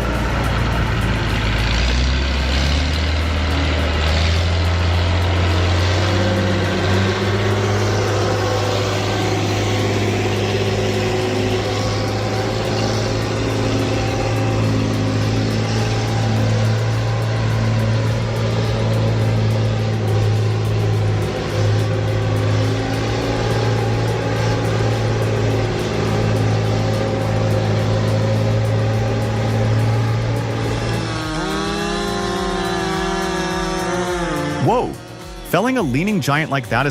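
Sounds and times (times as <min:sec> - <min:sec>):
heavy machine engine running: 0:00.0 - 0:36.9.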